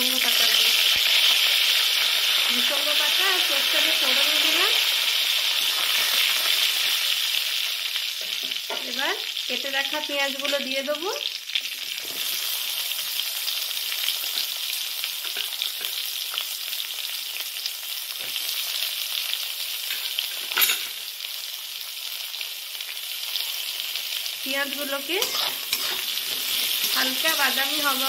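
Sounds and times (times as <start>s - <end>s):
onions sizzling in hot oil: 0.0s - 28.0s.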